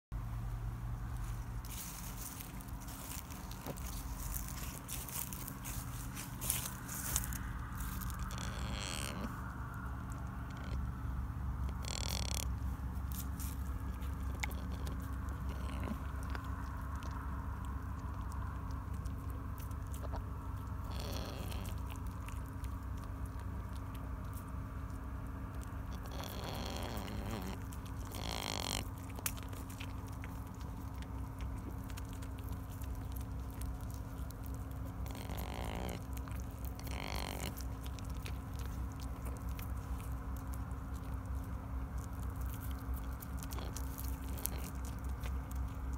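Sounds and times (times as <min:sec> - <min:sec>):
steady low rumble: 0:00.1 - 0:45.9
deer chewing wet clicks: 0:00.2 - 0:45.9.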